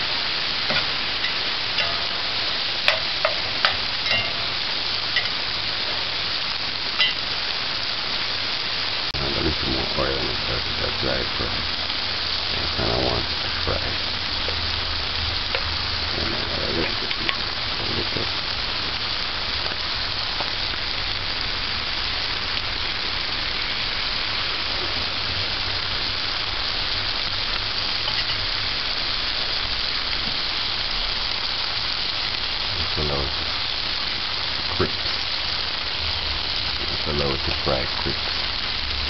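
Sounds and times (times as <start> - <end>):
fish frying sizzle: 0.0 - 39.0.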